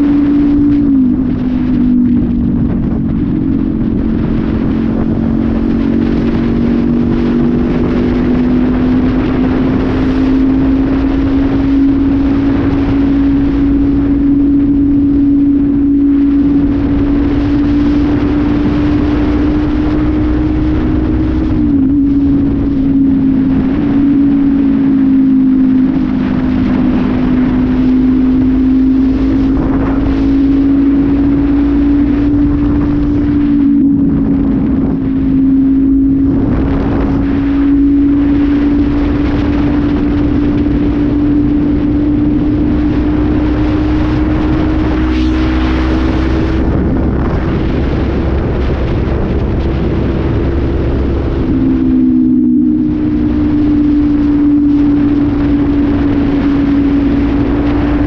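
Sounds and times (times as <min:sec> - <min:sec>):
motorcycle engine cruising: 0:00.0 - 0:58.0
wind on microphone: 0:00.0 - 0:58.0.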